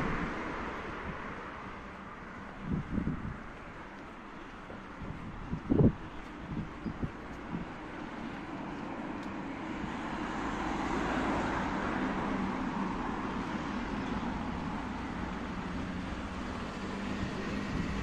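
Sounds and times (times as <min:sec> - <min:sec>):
cars rushing on city street: 0:00.0 - 0:18.0.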